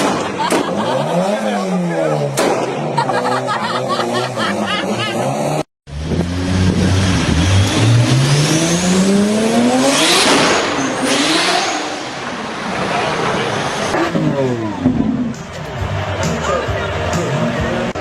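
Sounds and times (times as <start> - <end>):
car engine accelerating hard: 0.5 - 18.0.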